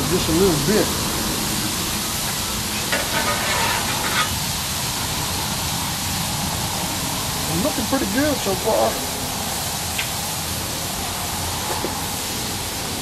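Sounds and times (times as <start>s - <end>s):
fish sizzling on a griddle: 0.0s - 13.0s
highway traffic rumble: 0.0s - 13.0s.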